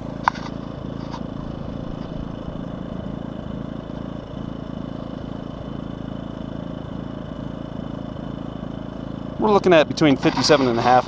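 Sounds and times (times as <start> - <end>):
generator idling: 0.0 - 11.0.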